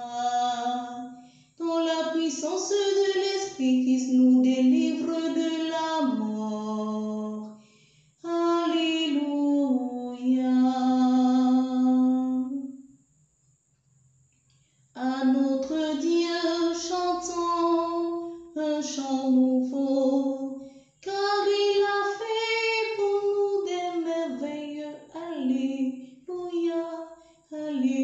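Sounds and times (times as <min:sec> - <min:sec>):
woman singing a hymn: 0:00.0 - 0:07.5, 0:08.2 - 0:12.6, 0:15.0 - 0:28.0.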